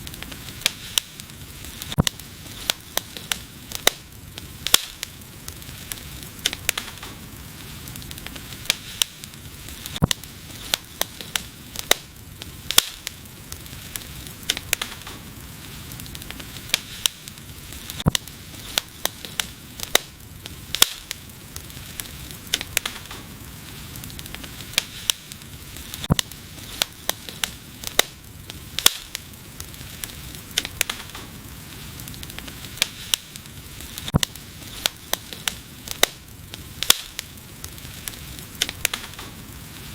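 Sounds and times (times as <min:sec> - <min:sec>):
flames hissing: 0:00.0 - 0:39.9
wood fire crackling and popping: 0:00.0 - 0:39.9.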